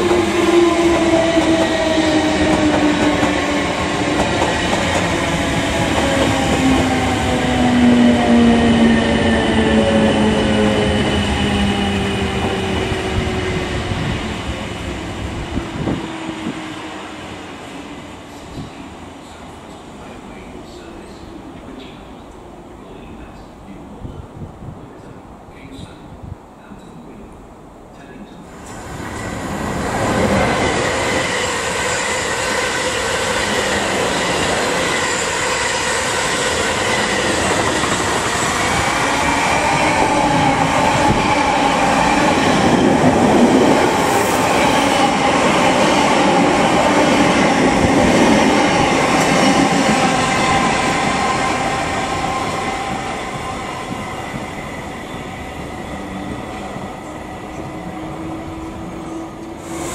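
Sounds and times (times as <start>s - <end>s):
train wheels rushing on rail: 0.0s - 26.0s, 28.5s - 59.9s.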